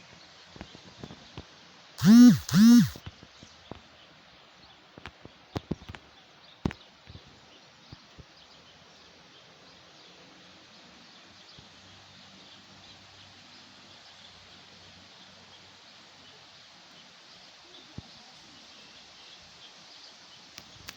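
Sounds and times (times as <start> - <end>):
steady outdoor hiss: 0.0 - 20.9.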